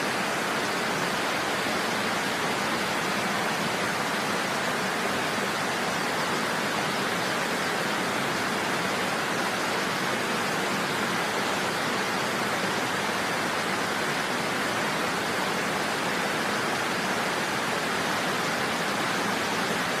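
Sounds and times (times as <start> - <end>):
steady rushing hiss: 0.0 - 20.0.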